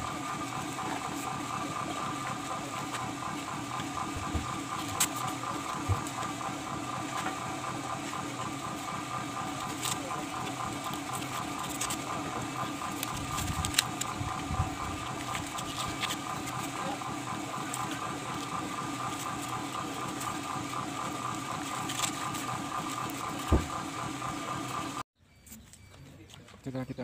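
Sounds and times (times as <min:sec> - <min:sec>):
pulsing mechanical hum: 0:00.0 - 0:25.0.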